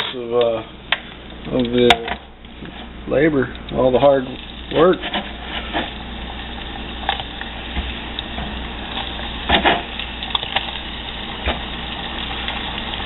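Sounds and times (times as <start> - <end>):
oil sizzling in a pot: 2.5 - 13.0.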